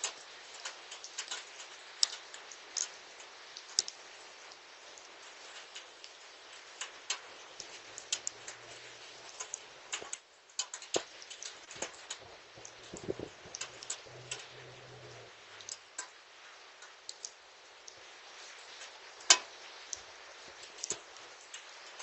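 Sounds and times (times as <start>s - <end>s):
hailstones ticking: 0.0s - 22.0s
steady rainfall hiss: 0.0s - 22.0s.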